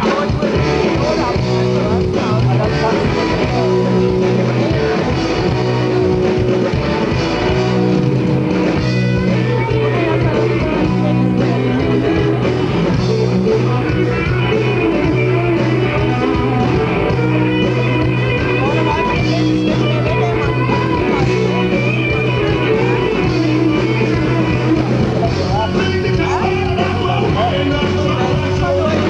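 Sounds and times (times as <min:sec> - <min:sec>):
bass guitar: 0:00.0 - 0:29.0
electric guitars: 0:00.0 - 0:29.0.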